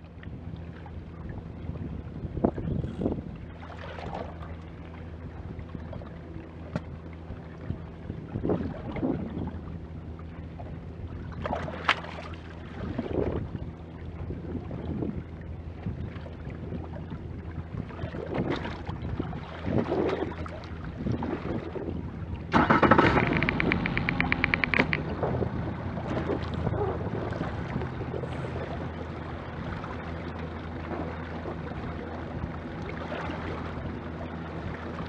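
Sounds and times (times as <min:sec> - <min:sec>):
choppy water against hull: 0:00.0 - 0:35.0
outboard motor running: 0:00.0 - 0:35.0.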